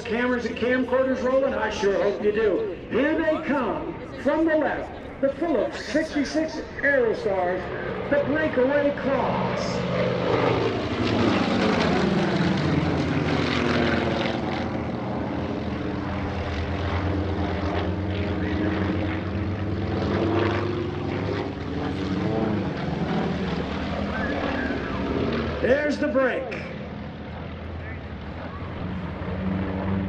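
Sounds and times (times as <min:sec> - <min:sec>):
propeller planes droning: 0:00.0 - 0:30.0.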